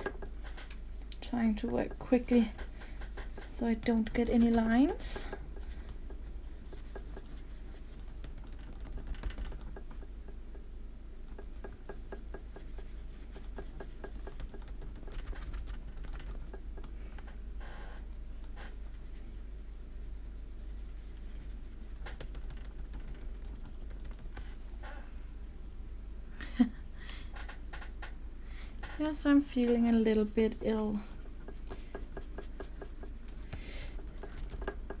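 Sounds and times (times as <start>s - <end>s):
brush tapping and scratching paper: 0.0s - 10.7s, 11.3s - 17.5s, 18.5s - 24.8s, 28.8s - 35.0s
steady low hum: 0.0s - 35.0s.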